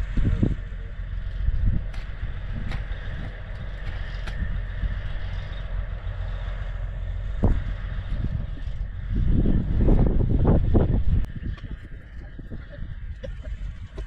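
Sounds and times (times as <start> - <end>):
backhoe engine idling: 0.0 - 14.0.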